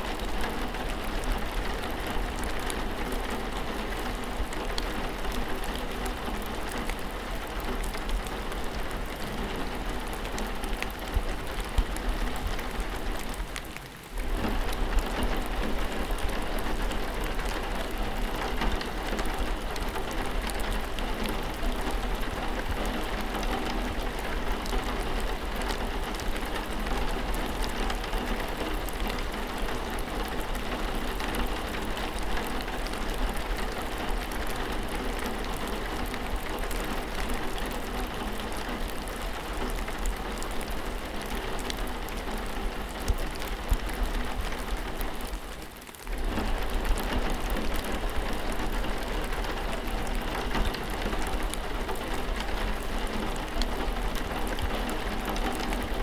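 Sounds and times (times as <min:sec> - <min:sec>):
raindrops pattering: 0:00.0 - 0:56.0.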